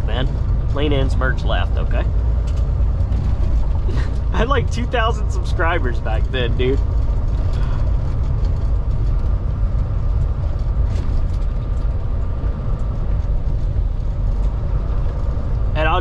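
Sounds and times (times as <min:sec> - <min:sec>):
road noise: 0:00.0 - 0:16.0
truck diesel engine rumble: 0:00.0 - 0:16.0.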